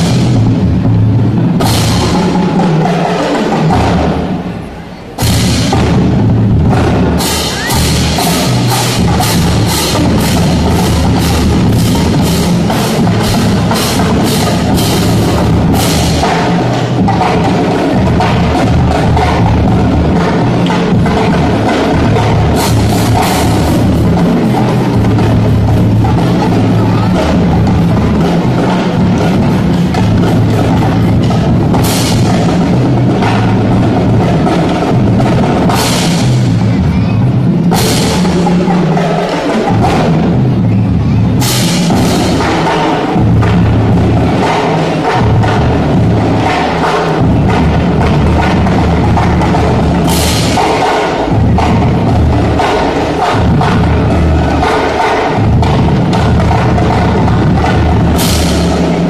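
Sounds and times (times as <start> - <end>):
marching drumline: 0.0 - 59.0.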